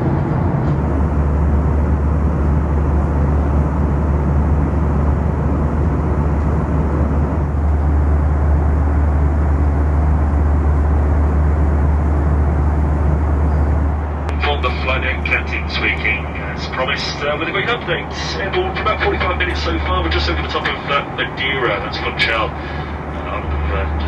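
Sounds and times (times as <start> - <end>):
airplane cabin airflow and engine drone: 0.0 - 24.0.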